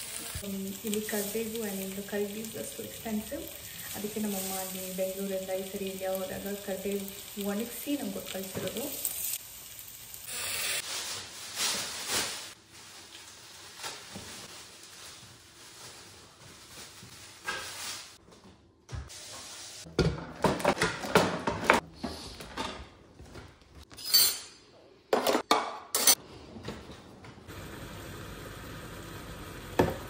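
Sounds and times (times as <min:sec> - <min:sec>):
kitchen rustling: 0:00.0 - 0:27.4.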